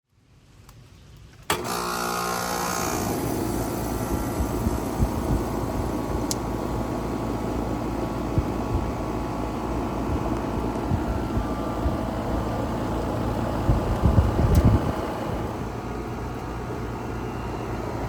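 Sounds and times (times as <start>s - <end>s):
air conditioner running: 1.5s - 18.0s.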